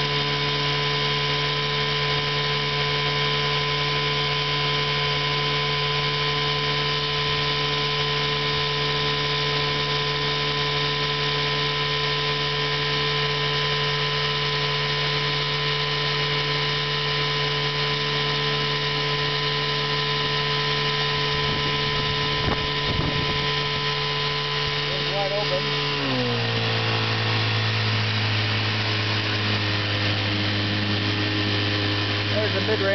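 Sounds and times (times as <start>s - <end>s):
outboard motor droning: 0.0s - 32.9s.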